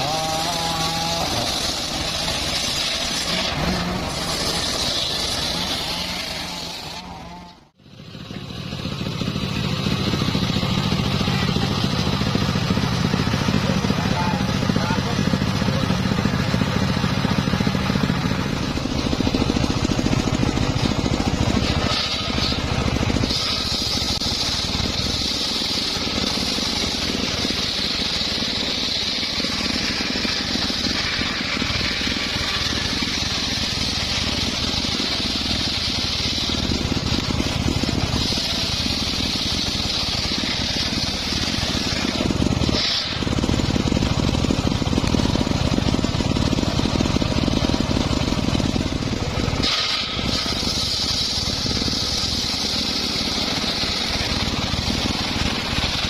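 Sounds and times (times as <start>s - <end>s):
circular sawmill cutting log: 0.0s - 56.0s.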